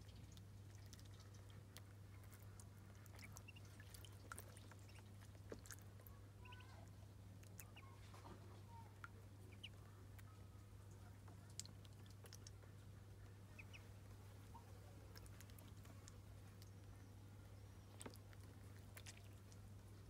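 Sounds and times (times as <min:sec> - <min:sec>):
ducklings dabbling in water: 0:00.0 - 0:20.0
soft duckling peeps: 0:00.0 - 0:20.0
steady low hum: 0:00.0 - 0:20.0.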